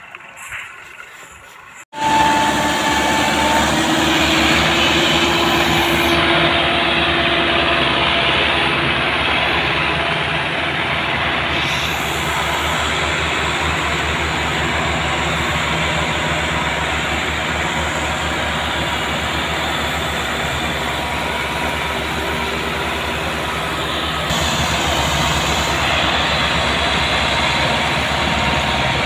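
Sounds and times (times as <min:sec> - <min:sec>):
diesel tractor engine running: 0:02.0 - 0:29.0.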